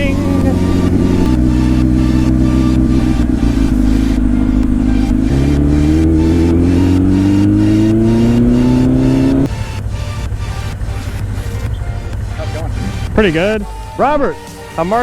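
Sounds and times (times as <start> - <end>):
motorcycle engine accelerating: 0.0 - 13.7.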